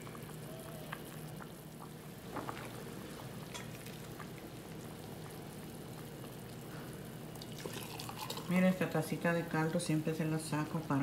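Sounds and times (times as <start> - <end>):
broth simmering in a pot: 0.0 - 11.0.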